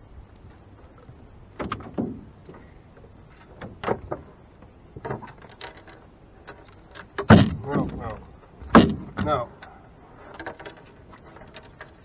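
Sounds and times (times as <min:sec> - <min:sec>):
knocks and thumps in a boat: 0:00.6 - 0:12.0.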